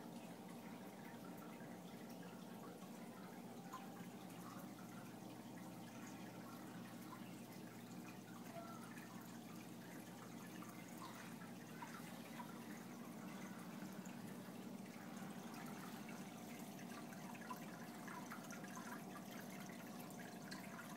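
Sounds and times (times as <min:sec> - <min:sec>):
low pump hum: 0:00.0 - 0:20.9
water trickling and dripping: 0:00.0 - 0:20.9.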